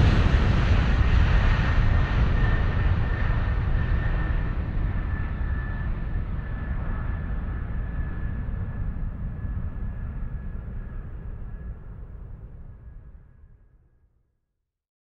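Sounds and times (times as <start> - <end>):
aircraft engine with whistle: 0.0 - 13.5.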